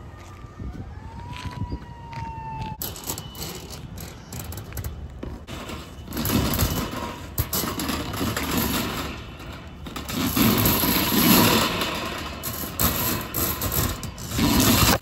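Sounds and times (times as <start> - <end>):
steel cable rattling in pipe: 2.8 - 15.0.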